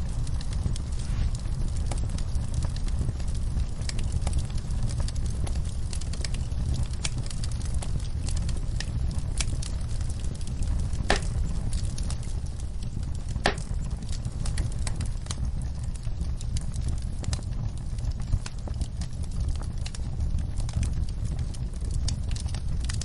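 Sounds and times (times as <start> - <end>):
loud fire pops: 0.0 - 23.0
wood fire crackling: 0.0 - 23.0.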